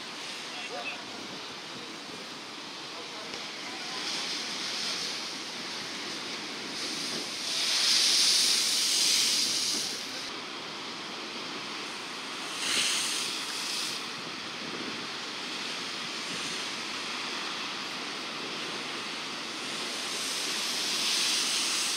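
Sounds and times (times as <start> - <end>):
hiss of breaking water: 0.0 - 21.9
surf crashing against seawall: 0.0 - 21.9.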